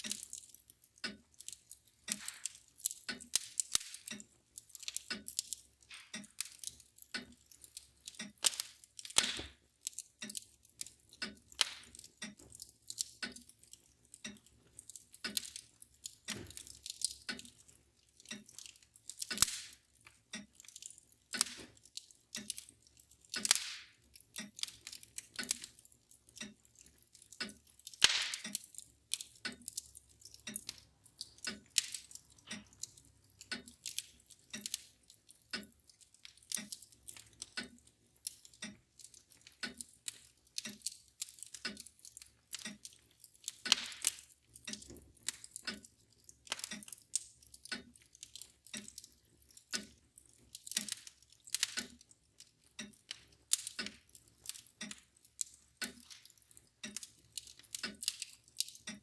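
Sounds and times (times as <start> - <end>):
clock ticking: 0.0 - 59.0
wood fire crackling and popping: 0.0 - 59.0.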